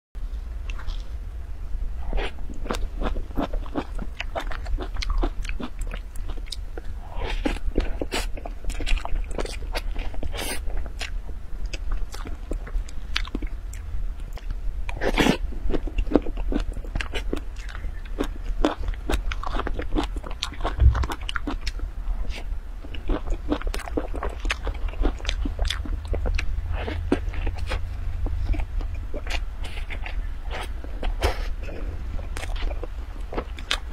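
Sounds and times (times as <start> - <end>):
steady low hum: 0.2 - 33.9
chewing with wet mouth clicks: 2.1 - 33.9.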